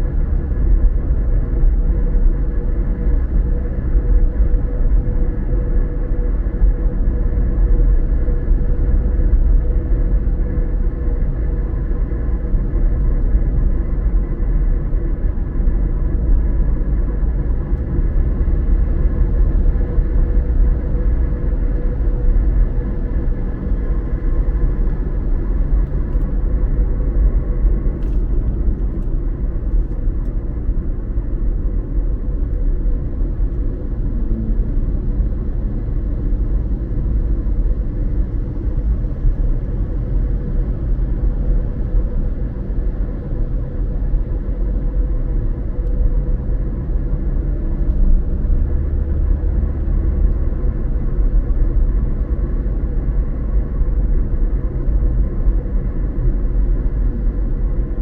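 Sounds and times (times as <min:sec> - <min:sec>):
car engine hum: 0:00.0 - 0:58.0
road rumble: 0:00.0 - 0:58.0.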